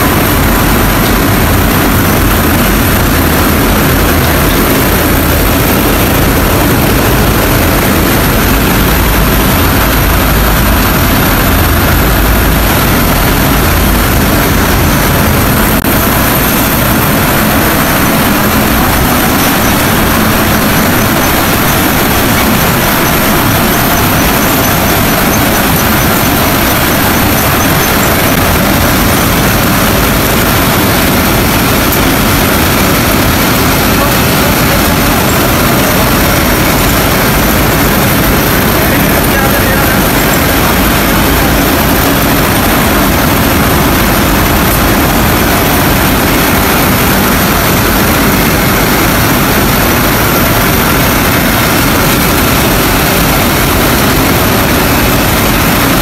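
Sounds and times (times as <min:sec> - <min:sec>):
cotton-opening machines running: 0:00.0 - 0:56.0.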